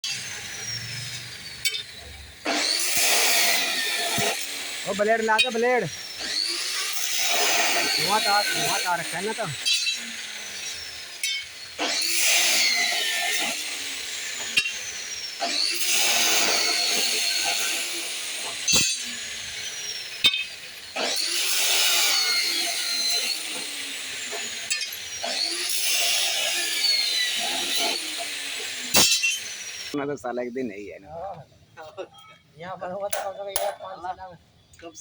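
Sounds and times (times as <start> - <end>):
angle grinder cutting: 0.0 - 30.0.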